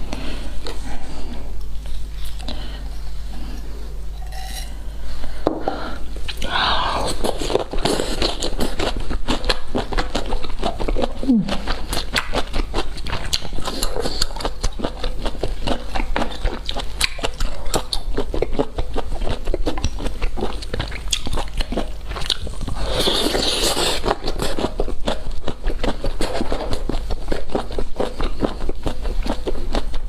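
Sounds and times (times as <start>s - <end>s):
person chewing and crunching food: 4.9s - 30.0s.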